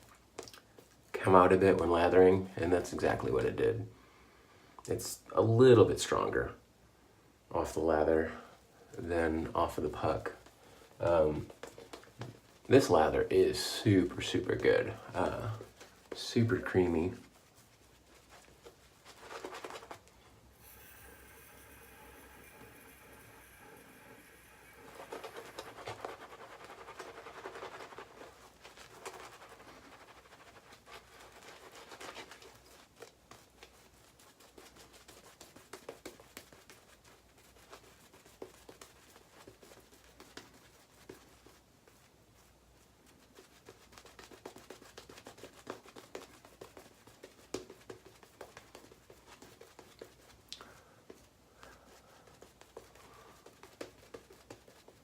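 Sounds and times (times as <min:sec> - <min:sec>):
shaving brush scratching lather: 0:09.1 - 0:50.5, 0:52.1 - 0:55.0.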